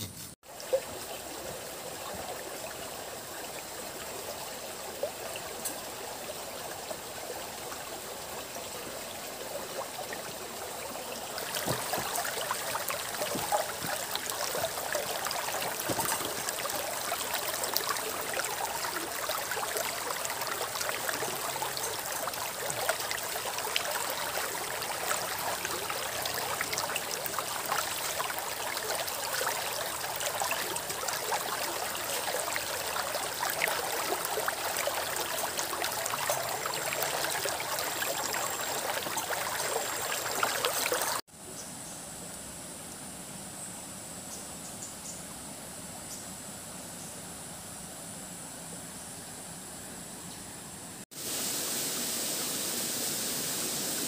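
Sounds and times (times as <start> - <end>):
stream rippling over stones: 0.4 - 41.3, 51.1 - 54.0.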